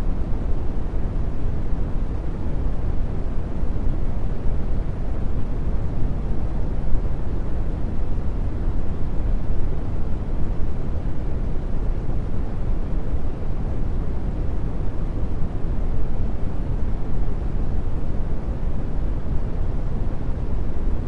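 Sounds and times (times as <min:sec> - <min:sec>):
deep rumbling brown noise: 0:00.0 - 0:21.0.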